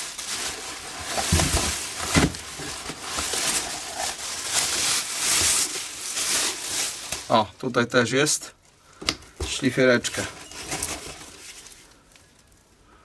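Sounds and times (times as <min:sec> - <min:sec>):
plastic bag rustling: 0:00.0 - 0:07.7, 0:08.8 - 0:12.6.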